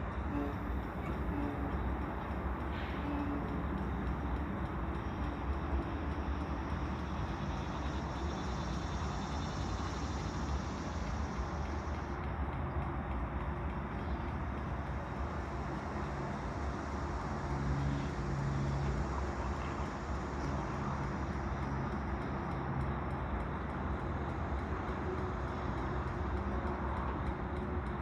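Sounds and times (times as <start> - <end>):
low engine rumble: 0.1 - 25.7.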